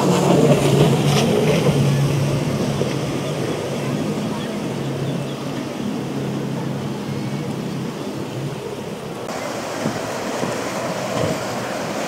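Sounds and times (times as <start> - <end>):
outboard engines droning: 0.0 - 12.0
rush of spray and waves: 0.0 - 12.0
wind and breaking water hiss: 0.0 - 12.0.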